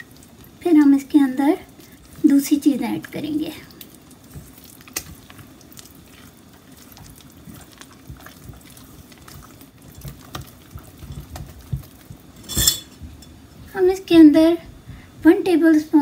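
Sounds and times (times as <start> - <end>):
spatula stirring wet batter: 0.0 - 15.4.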